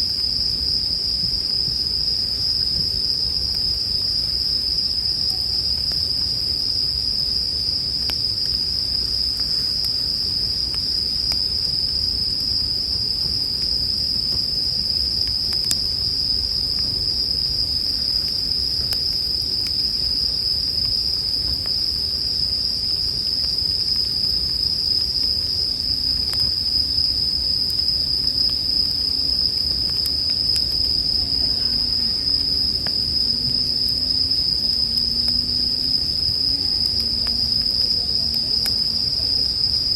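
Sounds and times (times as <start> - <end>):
crickets chirping: 0.0 - 39.9
campfire crackling: 0.1 - 39.9.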